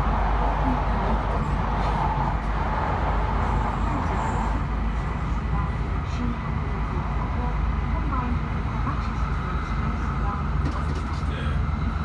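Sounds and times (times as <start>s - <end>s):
train interior running noise: 0.0s - 12.0s.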